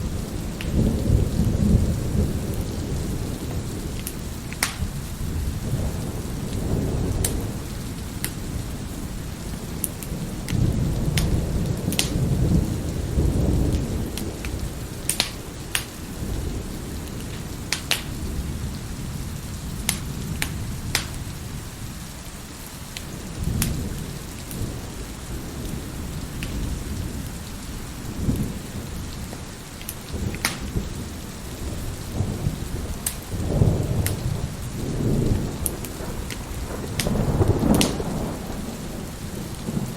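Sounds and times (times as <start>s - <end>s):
wood fire crackling and popping: 0.0s - 18.8s, 19.8s - 21.3s, 22.9s - 25.0s, 25.6s - 27.4s, 28.3s - 31.2s, 32.0s - 38.1s
rolling thunder: 0.0s - 22.0s, 23.1s - 39.9s
heavy rain: 0.0s - 39.9s.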